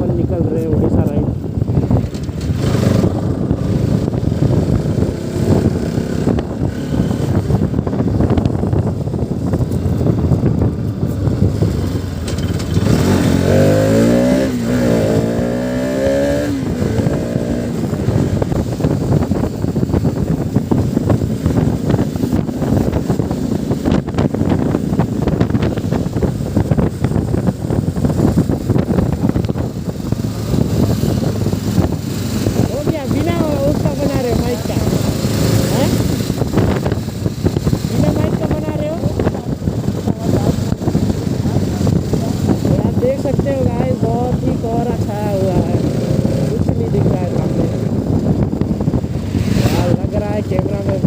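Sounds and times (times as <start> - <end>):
heavy wind noise: 0.0 - 51.0
motorcycle engine running: 0.0 - 51.0
engine revving: 1.8 - 8.6, 11.2 - 51.0.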